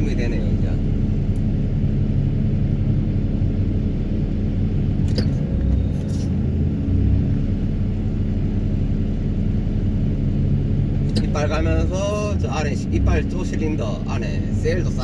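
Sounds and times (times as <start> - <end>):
excavator engine rumbling: 0.0 - 15.0.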